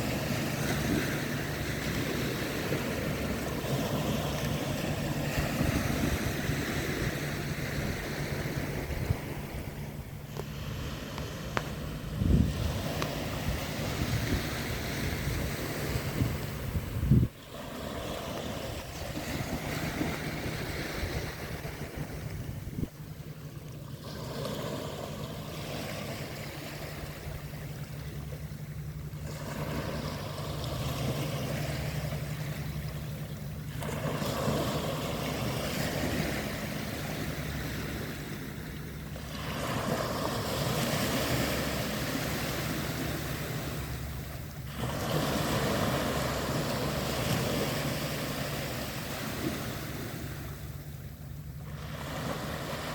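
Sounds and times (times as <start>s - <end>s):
sea waves washing in: 0.0s - 52.9s.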